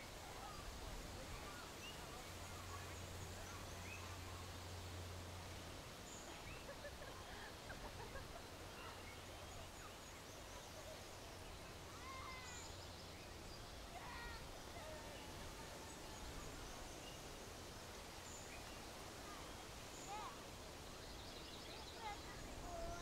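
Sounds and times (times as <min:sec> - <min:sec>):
background hiss: 0:00.0 - 0:23.0
songbird chirps: 0:00.0 - 0:23.0.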